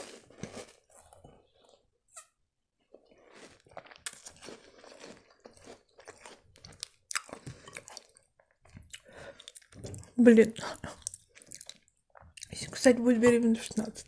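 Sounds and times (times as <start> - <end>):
chewing crunchy biscuits: 0.0 - 1.9, 2.8 - 12.8.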